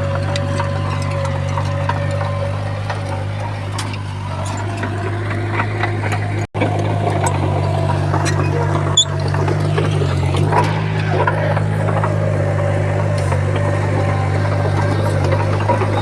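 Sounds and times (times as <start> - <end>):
diesel machinery engine droning: 0.0 - 16.0.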